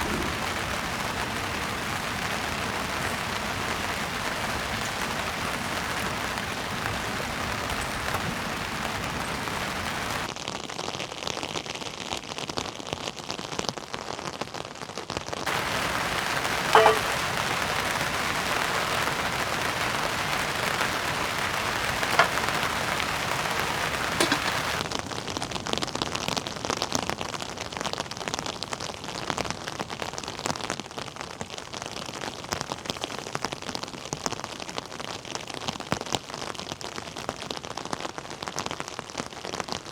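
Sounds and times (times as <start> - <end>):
heavy rain: 0.0 - 10.6, 14.9 - 39.9.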